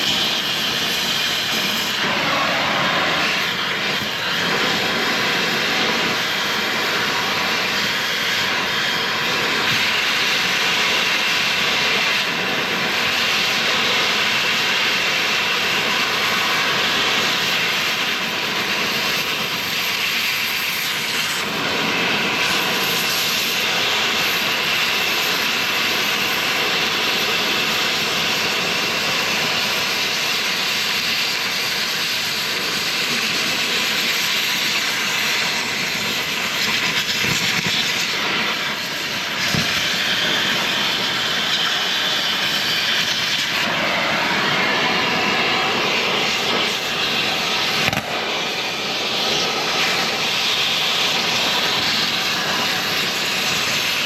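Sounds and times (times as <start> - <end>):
cutting torch hissing: 0.0 - 54.0.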